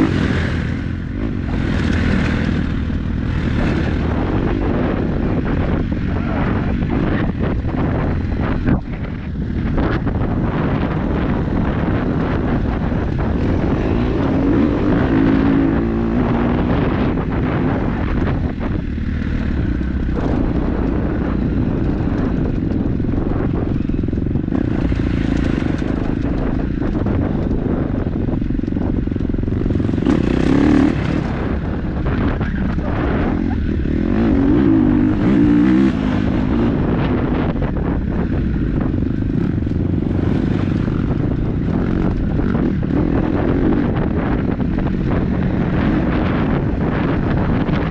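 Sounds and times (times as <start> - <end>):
dirt bike engine revving: 0.0 - 8.6, 9.7 - 28.0, 28.8 - 47.7
wind buffeting microphone: 0.0 - 47.9.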